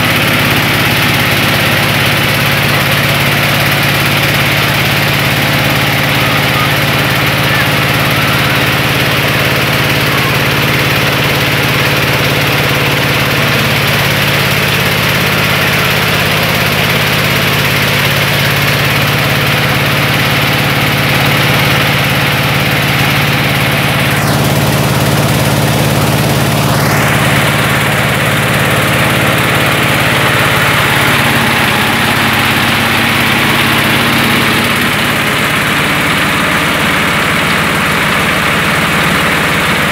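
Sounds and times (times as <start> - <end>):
engine hum: 0.0 - 39.9
milling machinery noise: 0.0 - 39.9.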